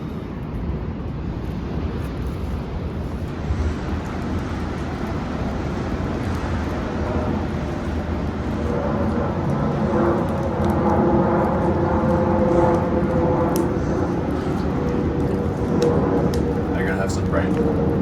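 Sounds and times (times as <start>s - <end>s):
faint crackles: 0.0s - 18.0s
wind: 0.0s - 18.0s.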